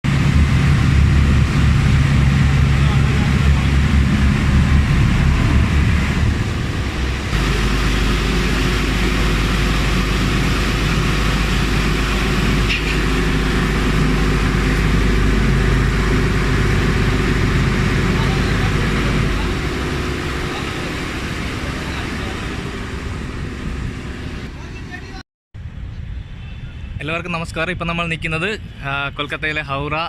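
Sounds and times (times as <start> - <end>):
low engine rumble: 0.0 - 25.8
busy outdoor noise: 0.0 - 30.0.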